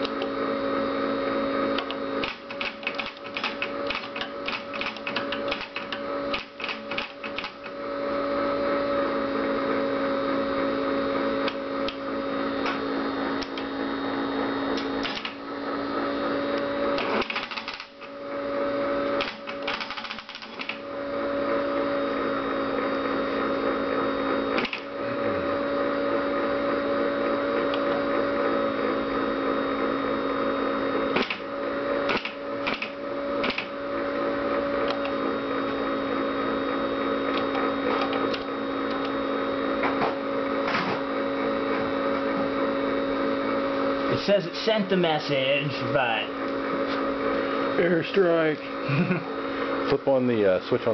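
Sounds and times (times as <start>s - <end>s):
teletype humming: 0.0s - 50.9s.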